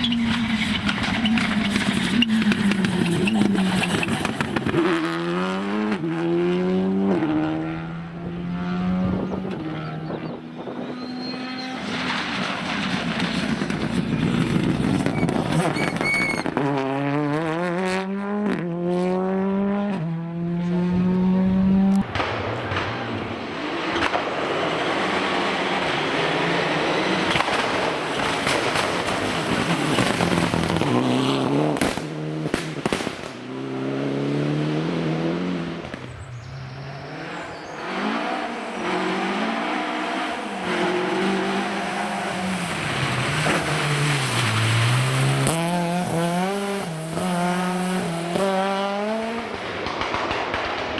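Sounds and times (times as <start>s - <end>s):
car passing with tyre noise: 0.0s - 50.9s
rally car engines revving: 0.0s - 50.9s.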